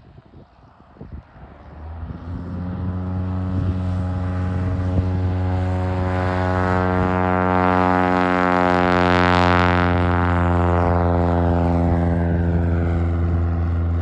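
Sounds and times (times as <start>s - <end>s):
piston aircraft engine and propeller: 0.0s - 14.0s
wind buffeting microphone: 0.0s - 14.0s.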